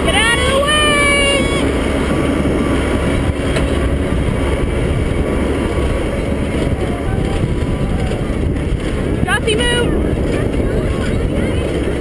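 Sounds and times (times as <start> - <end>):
farm vehicle engine running: 0.0 - 12.0.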